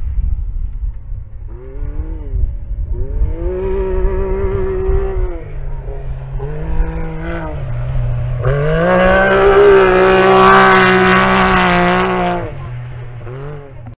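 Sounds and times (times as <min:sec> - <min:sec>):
buggy engine racing by: 0:01.3 - 0:13.9.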